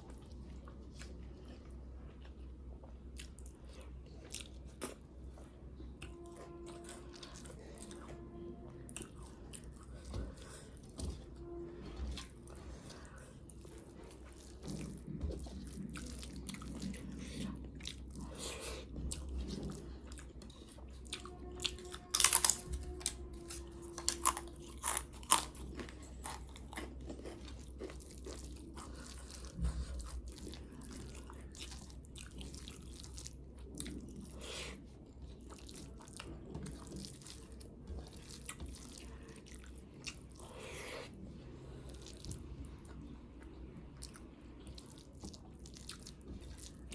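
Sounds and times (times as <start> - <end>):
chewing with crisp crunches: 0.0 - 46.9.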